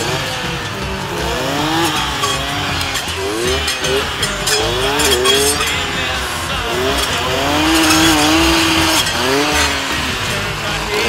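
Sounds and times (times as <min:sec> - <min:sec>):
brush saw engine revving: 0:00.0 - 0:11.0.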